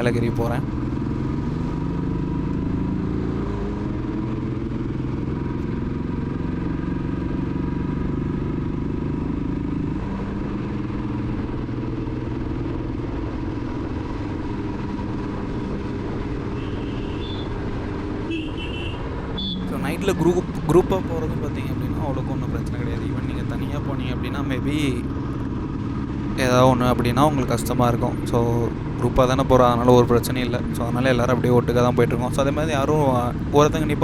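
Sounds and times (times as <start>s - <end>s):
motorcycle engine running: 0.0s - 34.0s
road rumble: 0.0s - 34.0s.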